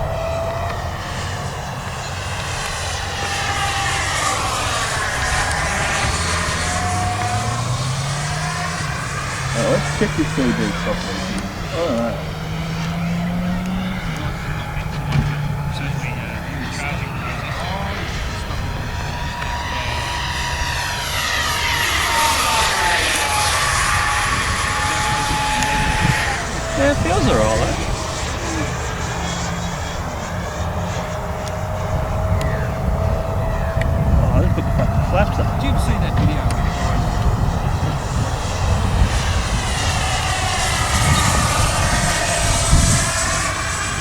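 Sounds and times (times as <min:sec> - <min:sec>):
model jet fan whine: 0:00.0 - 0:44.0
wind rumble on microphone: 0:00.0 - 0:44.0.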